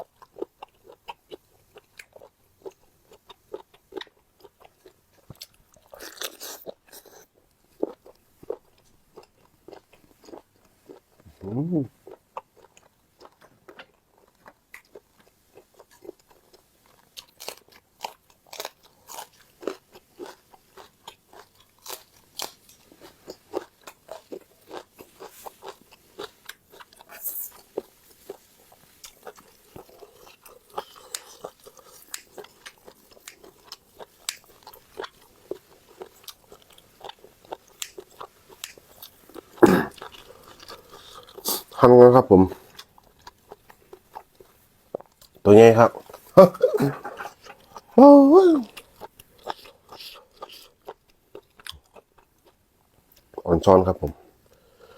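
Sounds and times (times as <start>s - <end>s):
crisp crunching and chewing: 0.0s - 42.0s, 42.6s - 53.4s.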